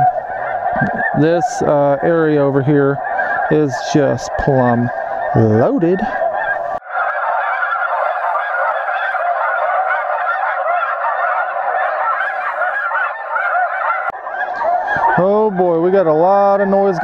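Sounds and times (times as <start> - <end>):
electronic snow goose calls: 0.0 - 17.0.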